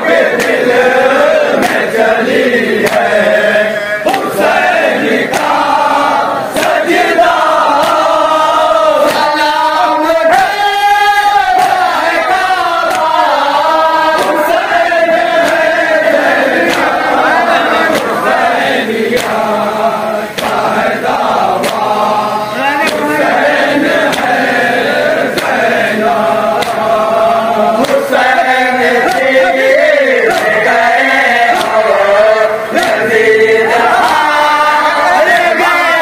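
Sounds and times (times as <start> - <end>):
men chanting a lament: 0.0 - 36.0
hands beating chests: 0.2 - 0.8, 1.5 - 2.0, 2.8 - 3.2, 4.0 - 19.5, 20.3 - 27.1, 27.7 - 36.0.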